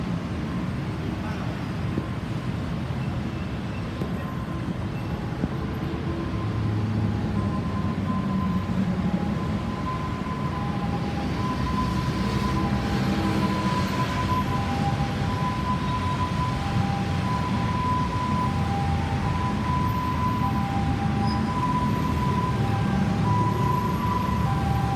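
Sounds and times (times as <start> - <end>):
heavy traffic rumble: 0.0 - 24.9
ambulance siren: 4.2 - 24.9.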